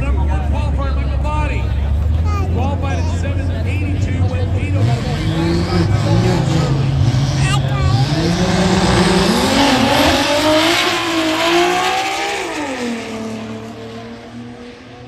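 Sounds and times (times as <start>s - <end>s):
drag racing cars accelerating: 0.0s - 15.0s.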